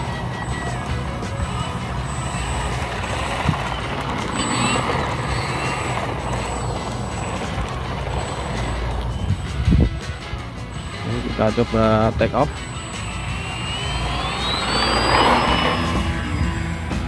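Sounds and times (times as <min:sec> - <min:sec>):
electric motor and propeller whirring: 0:00.0 - 0:17.0.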